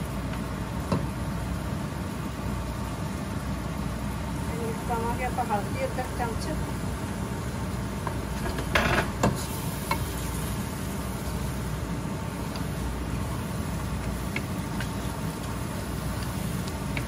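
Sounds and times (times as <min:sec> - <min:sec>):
food frying in a pot: 0:00.0 - 0:17.0.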